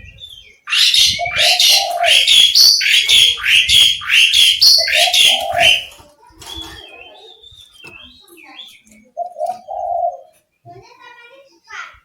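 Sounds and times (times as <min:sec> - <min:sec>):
magpie-robin singing: 0:00.0 - 0:10.7.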